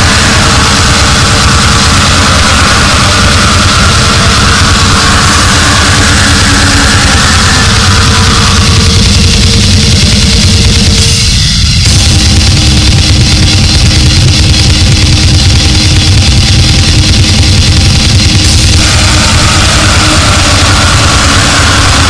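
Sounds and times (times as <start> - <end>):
distorted harsh noise music: 0.0 - 22.0
heavy low rumble: 0.0 - 22.0.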